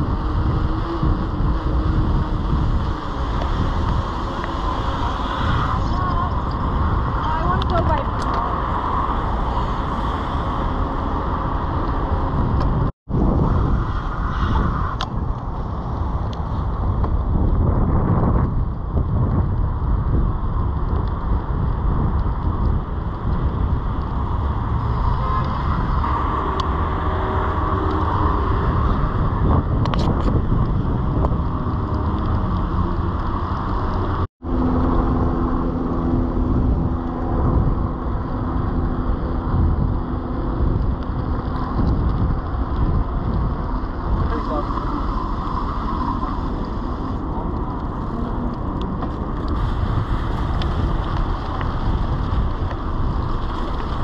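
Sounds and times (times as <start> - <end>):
bicycle tyres on wet road: 0.0 - 54.0
cars passing: 0.0 - 54.0
wind on microphone: 0.0 - 54.0.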